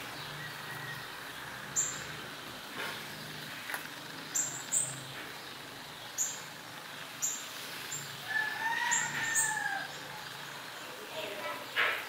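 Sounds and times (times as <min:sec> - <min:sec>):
rising and falling bird call: 0:00.0 - 0:03.5, 0:04.2 - 0:10.7
small birds chirping: 0:00.0 - 0:12.0.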